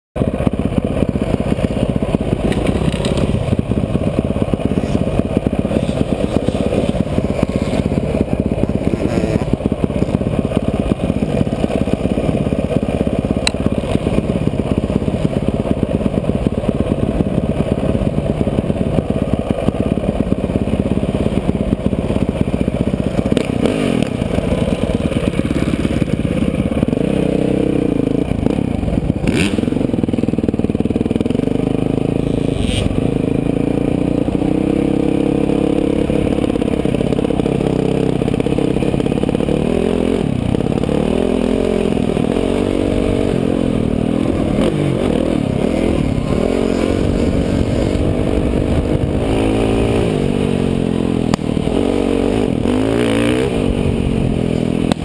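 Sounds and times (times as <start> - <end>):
dirt bike engine rumbling: 0.2 - 55.0.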